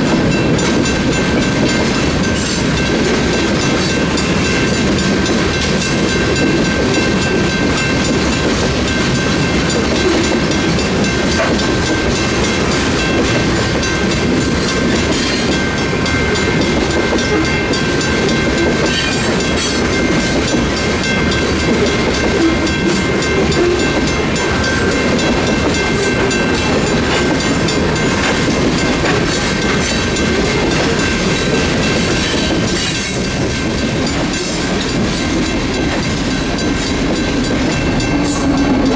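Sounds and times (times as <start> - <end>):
freight train rolling past: 0.0 - 38.9.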